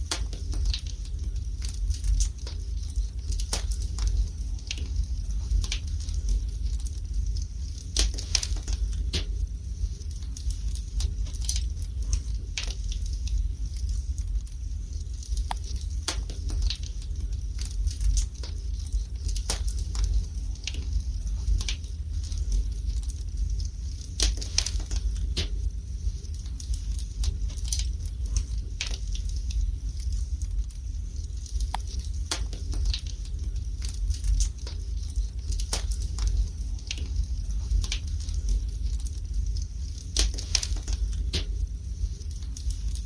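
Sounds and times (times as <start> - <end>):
low steady rumble: 0.0 - 43.0
wood fire crackling and popping: 0.0 - 43.0.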